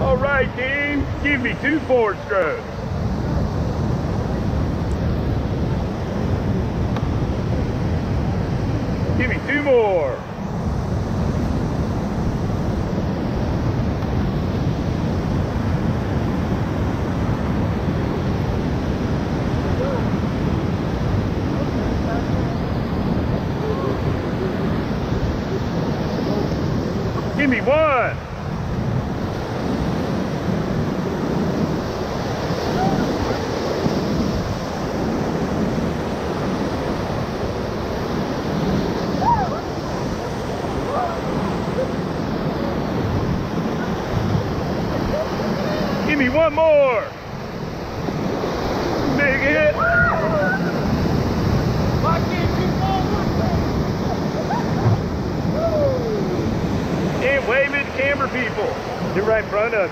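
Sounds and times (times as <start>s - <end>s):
whitewater rapids roaring: 0.0s - 59.9s.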